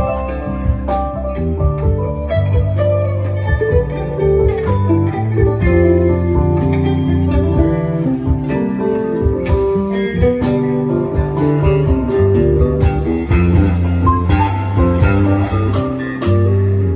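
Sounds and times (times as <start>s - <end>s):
bass line: 0.0s - 16.9s
guitar picking notes: 0.0s - 16.9s.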